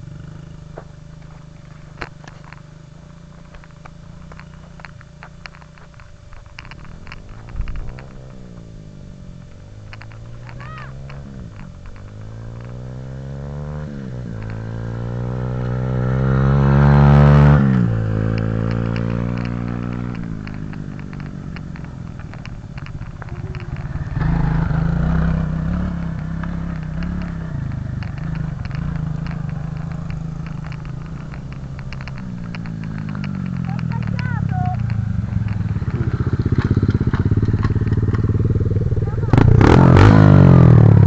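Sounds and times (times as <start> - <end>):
off-road vehicle engine revving: 0.0 - 41.0.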